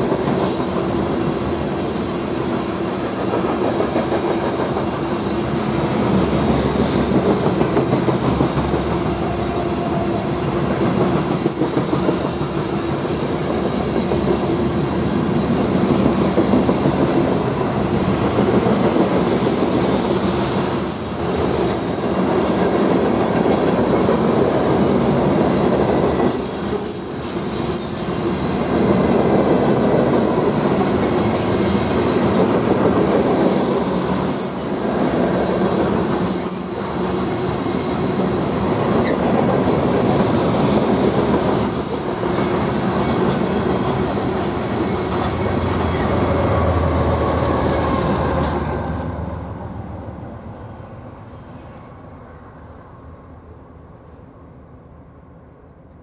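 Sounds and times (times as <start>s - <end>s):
train wheels rumbling on rails: 0.0s - 51.6s.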